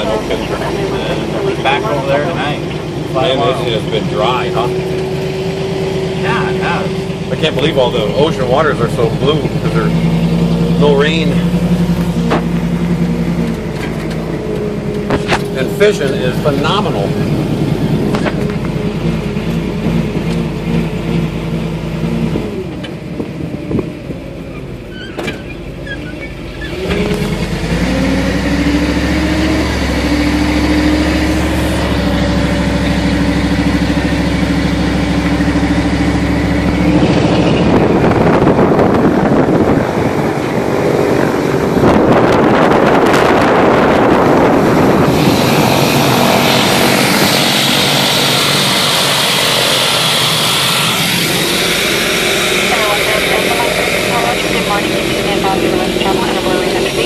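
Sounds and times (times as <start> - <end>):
truck engine and hydraulics humming: 0.0 - 57.0
turboprop plane taxiing: 0.0 - 57.0.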